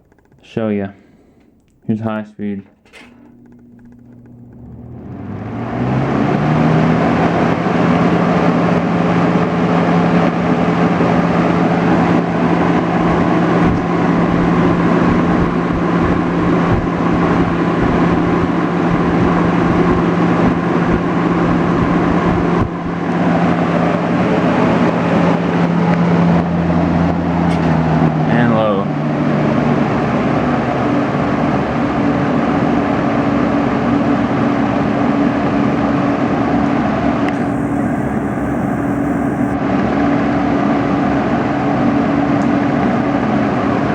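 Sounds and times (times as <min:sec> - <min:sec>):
fan air rushing: 0:00.0 - 0:43.9
box fan motor hum: 0:02.9 - 0:43.9.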